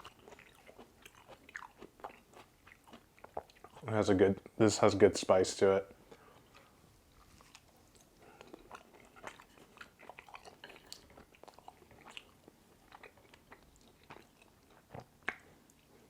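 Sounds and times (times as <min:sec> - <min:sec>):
person chewing with mouth smacks: 0:00.0 - 0:03.9, 0:06.0 - 0:16.0.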